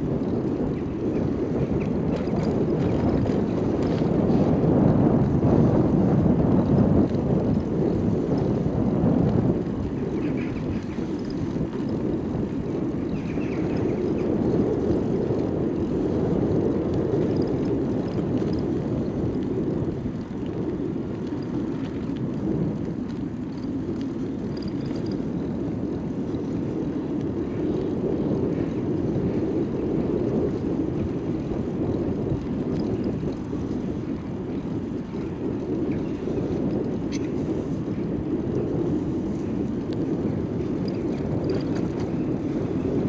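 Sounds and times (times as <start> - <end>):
bicycle tyres on asphalt: 0.0 - 43.0
wind buffeting microphone: 0.0 - 43.0.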